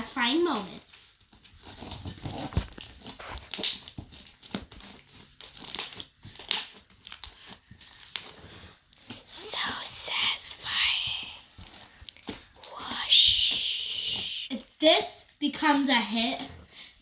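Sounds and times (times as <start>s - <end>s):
slime crackling and popping: 1.6s - 16.0s.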